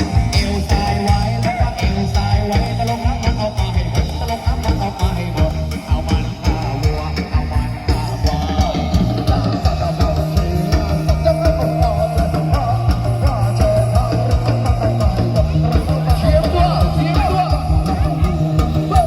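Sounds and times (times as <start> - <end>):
band playing fast beat: 0.0 - 19.0
drum kit: 0.0 - 19.0
electric guitar: 0.0 - 19.0
heavy bass: 0.0 - 19.0.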